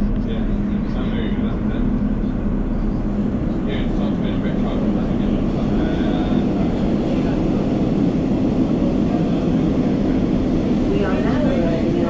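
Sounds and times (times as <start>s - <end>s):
faint high whine: 0.0s - 12.0s
train rumble of wheels and motors: 0.0s - 12.0s.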